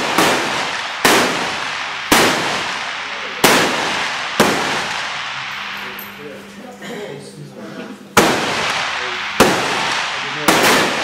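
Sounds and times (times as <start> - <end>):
rifle shots echoing: 0.0 - 6.3, 8.1 - 11.0.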